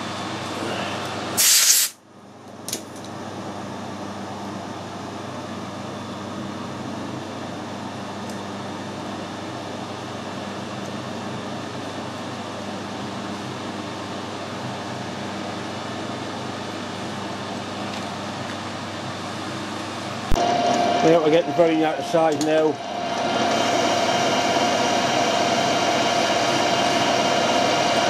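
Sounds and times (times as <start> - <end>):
workshop machinery hum: 0.0 - 28.0.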